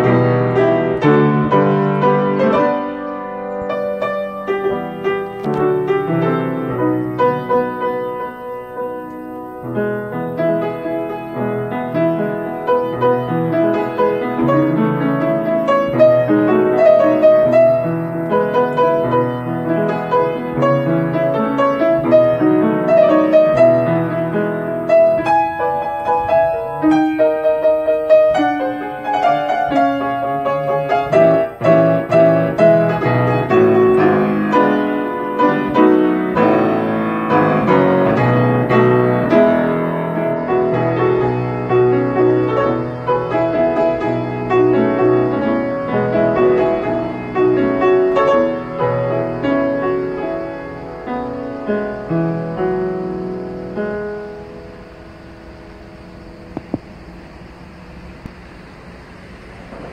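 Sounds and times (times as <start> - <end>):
solo piano music: 0.0 - 58.3.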